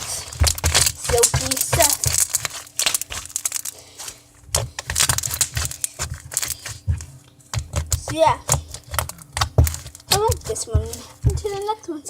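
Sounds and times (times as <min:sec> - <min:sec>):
slime squished by hand: 0:00.0 - 0:11.6.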